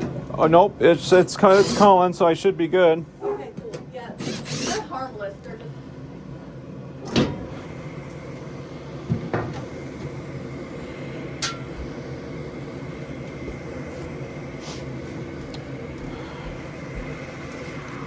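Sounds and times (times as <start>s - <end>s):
furnace motor hum: 0.0s - 18.0s.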